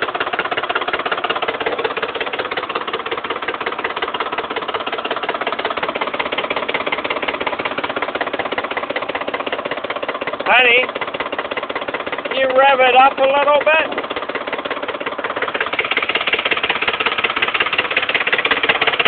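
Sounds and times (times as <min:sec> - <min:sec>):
truck engine idling with rapid knock: 0:00.0 - 0:19.0.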